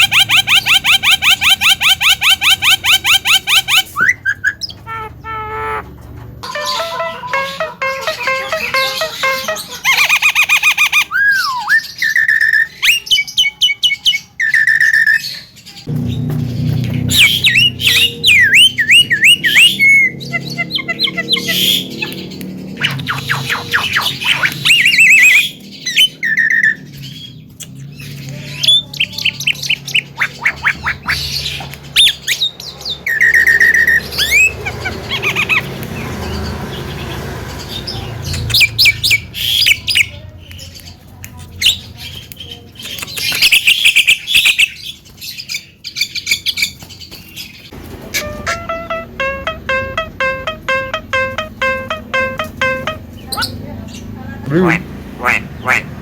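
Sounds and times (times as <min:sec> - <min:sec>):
myna bird singing: 0:00.0 - 0:56.0.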